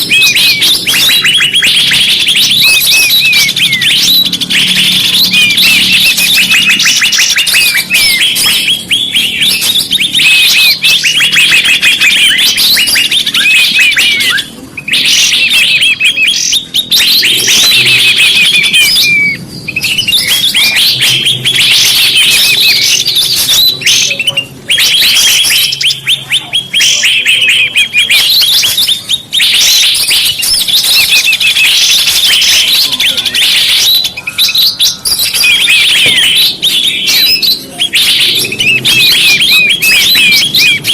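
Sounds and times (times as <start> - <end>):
small birds chirping and trilling: 0.0 - 40.9.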